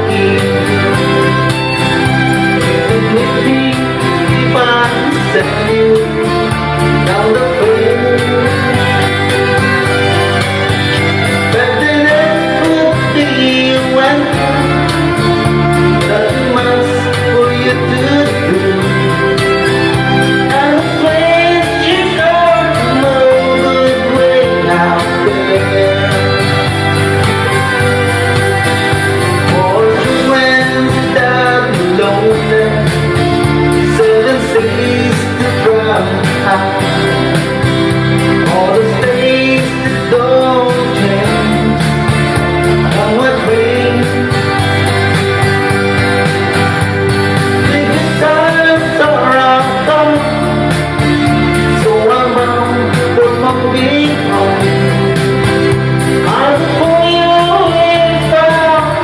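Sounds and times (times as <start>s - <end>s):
guitar accompaniment: 0.0s - 59.0s
person singing: 0.0s - 59.0s.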